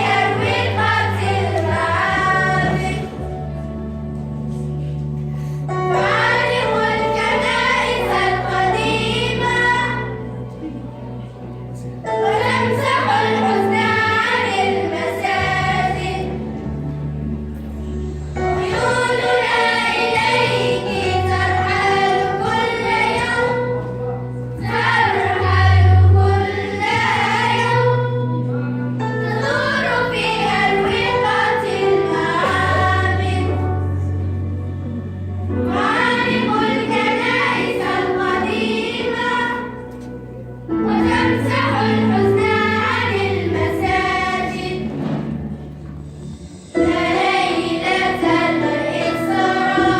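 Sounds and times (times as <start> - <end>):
children's choir singing in unison: 0.0 - 49.9
sustained low backing notes: 0.0 - 49.9.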